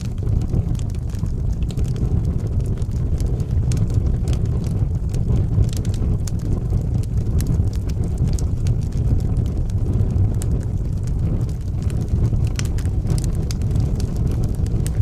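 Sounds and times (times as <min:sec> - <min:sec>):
fire crackling and rumbling: 0:00.0 - 0:15.0.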